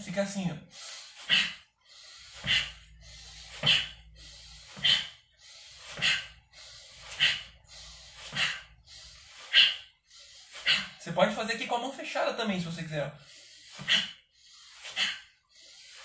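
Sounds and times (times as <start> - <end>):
man's forceful breaths out: 0.7 - 11.0, 13.2 - 16.0.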